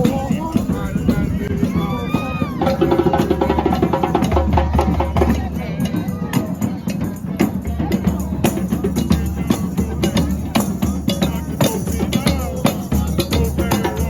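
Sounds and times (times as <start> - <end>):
hand drums beating: 0.0 - 14.0
tambourines: 0.0 - 14.0.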